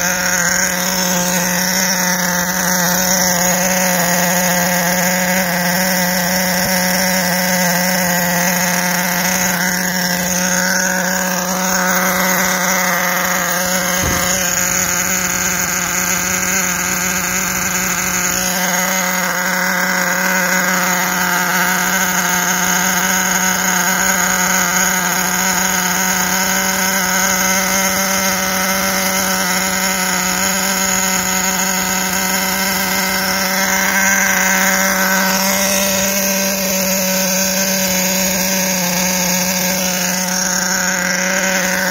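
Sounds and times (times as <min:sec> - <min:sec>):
nitro engine buzzing: 0:00.0 - 0:41.9.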